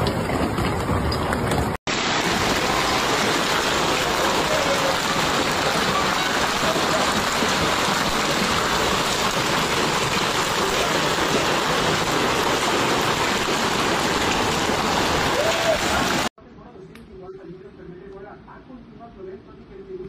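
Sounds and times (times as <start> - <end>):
hail and rain pelting pavement: 0.0 - 16.3
water running in road: 0.0 - 16.3.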